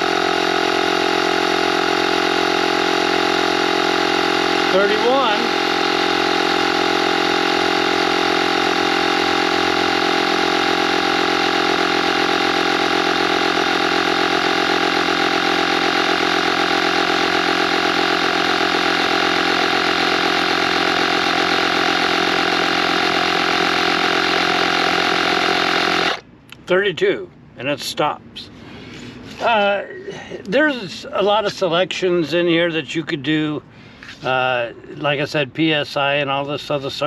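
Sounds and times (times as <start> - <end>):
air compressor running: 0.0 - 26.3, 28.5 - 32.2, 33.6 - 35.3.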